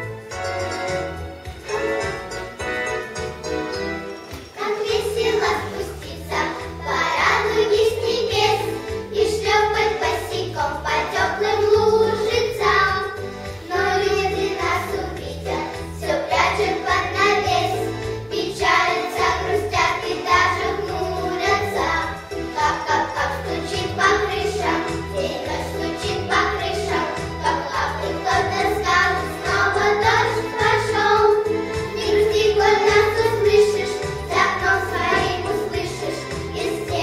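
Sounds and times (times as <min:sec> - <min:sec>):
instrumental accompaniment: 0:00.0 - 0:37.0
child singing: 0:04.6 - 0:37.0.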